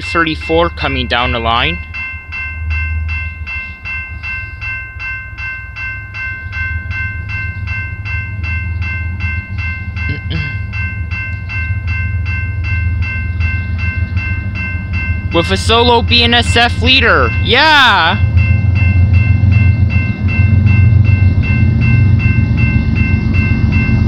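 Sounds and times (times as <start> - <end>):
level crossing warning bell ringing: 0.0 - 24.0
steady low rumble: 0.0 - 24.0.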